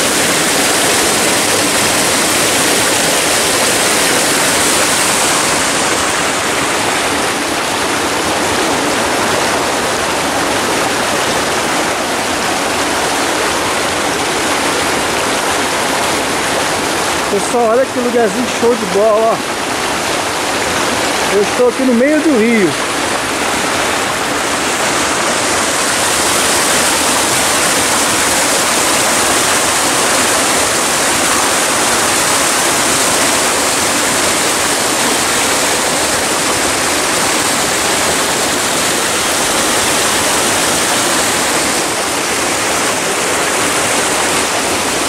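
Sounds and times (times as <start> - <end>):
river rushing over rocks: 0.0 - 45.0.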